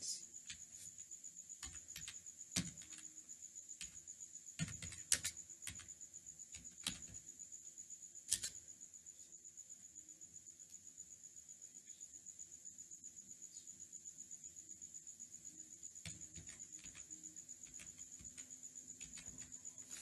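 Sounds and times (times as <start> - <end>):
faint high-pitched whine: 0.0 - 20.0.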